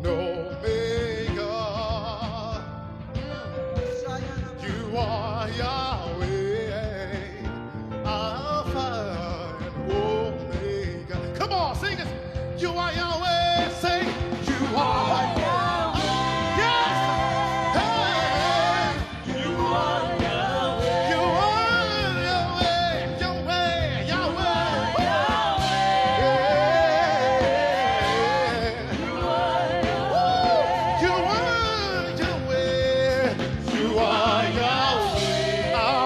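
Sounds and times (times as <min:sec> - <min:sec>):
band playing gospel music: 0:00.0 - 0:36.0.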